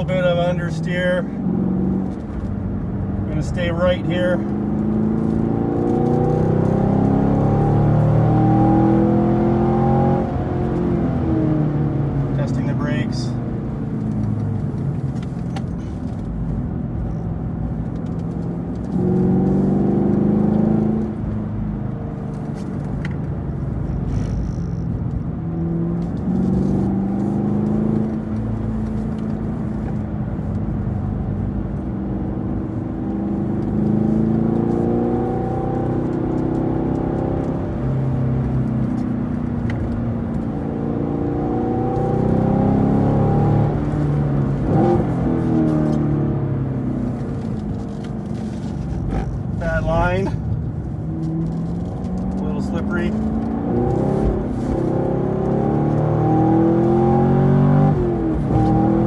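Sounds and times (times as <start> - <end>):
car engine revving on track: 0.0 - 59.0.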